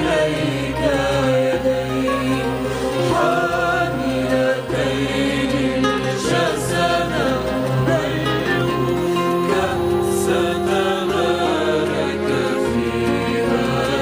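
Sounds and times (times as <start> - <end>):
instrumental accompaniment with bass: 0.0 - 14.0
voices singing a hymn: 0.0 - 14.0.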